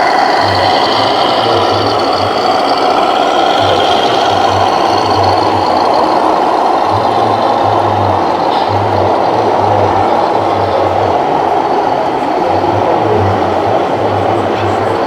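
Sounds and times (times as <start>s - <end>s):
low engine-like hum: 0.0s - 15.0s
small motors whirring: 0.0s - 15.0s.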